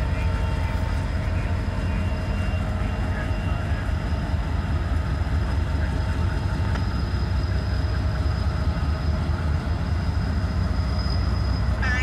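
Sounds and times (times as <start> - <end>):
faint high whine: 0.0 - 12.0
locomotive engines rumbling: 0.0 - 12.0.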